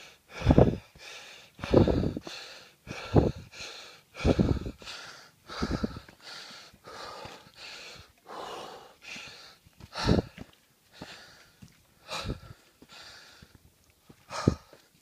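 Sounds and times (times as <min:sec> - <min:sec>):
person breathing heavily: 0:00.0 - 0:14.9.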